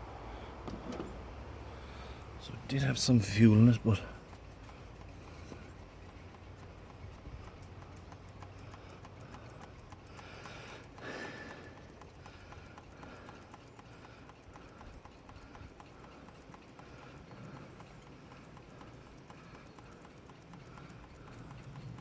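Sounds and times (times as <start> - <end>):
light clicks: 2.0 - 22.0.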